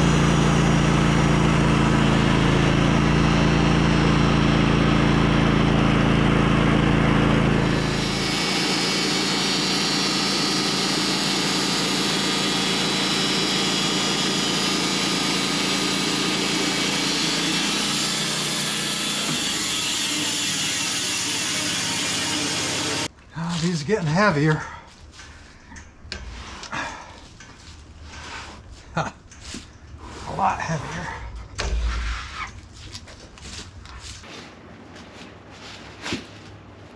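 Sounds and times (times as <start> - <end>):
band sawmill cutting log: 0.0 - 24.6, 26.1 - 34.3.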